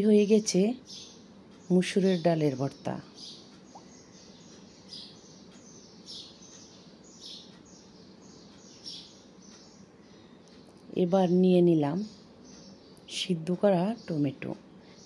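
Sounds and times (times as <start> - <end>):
faint high chirping: 0.0 - 15.0
low steady hiss: 0.0 - 15.0.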